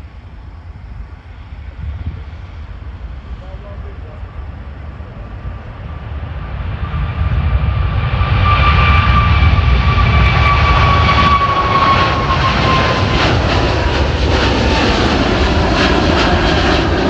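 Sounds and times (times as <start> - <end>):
jet airliner passing: 0.0 - 17.0.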